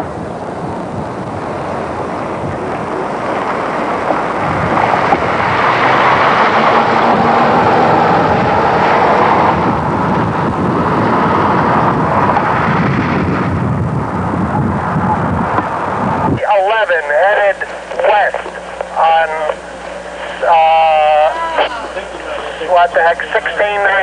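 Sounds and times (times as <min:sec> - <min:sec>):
strong storm wind rushing: 0:00.0 - 0:22.0.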